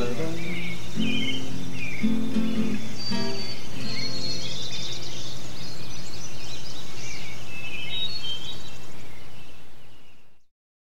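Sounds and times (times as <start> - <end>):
songbirds chirping: 0.0 - 10.5.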